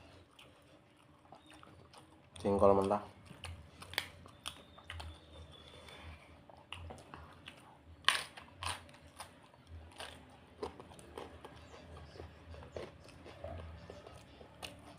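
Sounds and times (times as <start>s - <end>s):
chewing with crunches: 0.0s - 14.9s.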